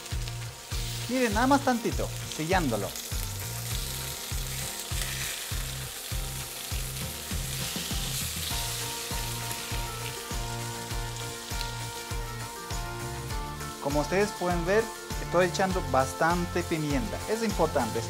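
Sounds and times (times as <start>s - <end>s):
background music beat: 0.0s - 18.0s
meat sizzling in a hot pan: 0.0s - 18.0s.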